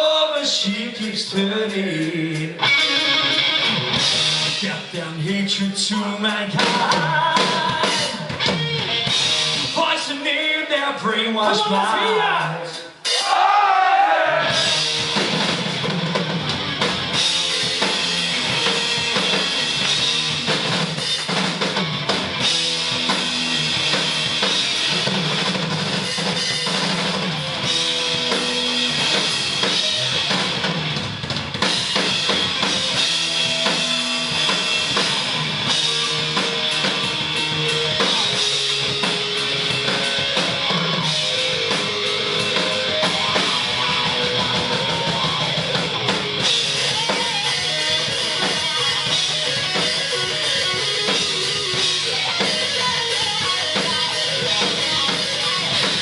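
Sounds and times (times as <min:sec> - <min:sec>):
distorted electric guitar: 0:00.0 - 0:10.2, 0:14.4 - 0:56.0
pounding drum kit: 0:00.0 - 0:56.0
rock band playing: 0:00.0 - 0:56.0.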